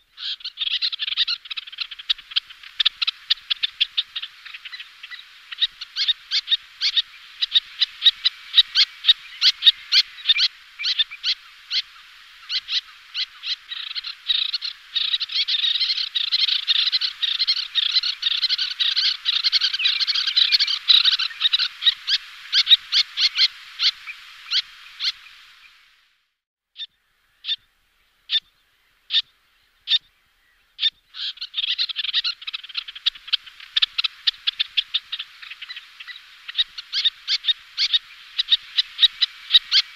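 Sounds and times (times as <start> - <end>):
terns calling: 0.0 - 26.0, 26.8 - 39.9.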